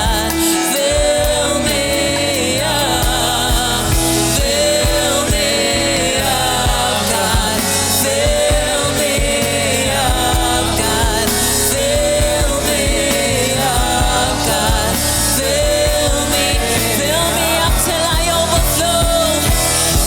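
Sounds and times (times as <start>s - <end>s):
bass: 0.0s - 20.0s
keyboard: 0.0s - 20.0s
person singing melody: 0.0s - 20.0s
steady drum beat: 0.0s - 20.0s.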